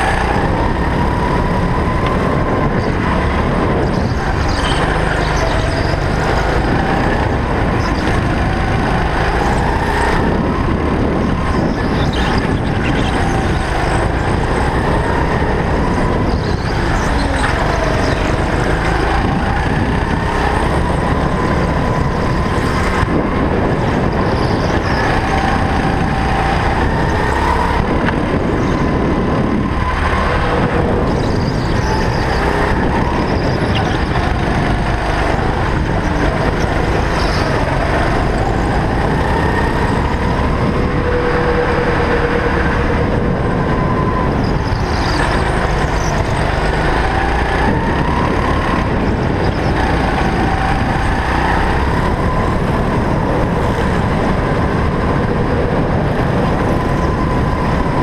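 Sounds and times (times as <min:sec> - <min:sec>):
go-kart engine: 0:00.0 - 0:58.0
rumble of tyres and wind: 0:00.0 - 0:58.0.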